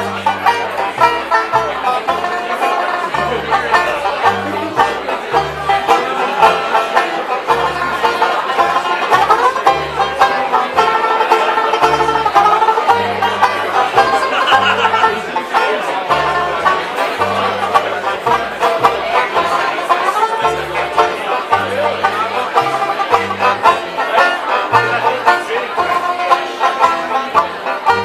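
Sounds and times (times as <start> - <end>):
banjo strumming chords: 0.0 - 28.0
plucked double bass: 0.0 - 28.0.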